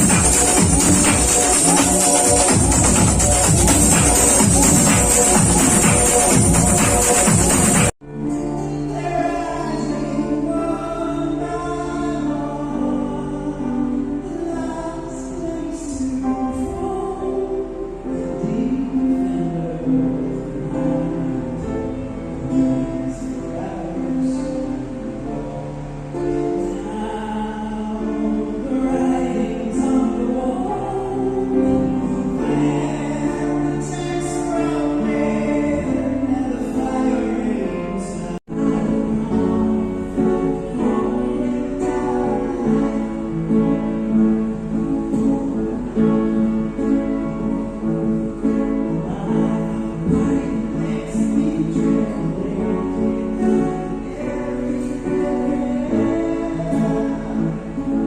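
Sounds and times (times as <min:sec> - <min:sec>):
song with singing and instruments: 0:00.0 - 0:58.0.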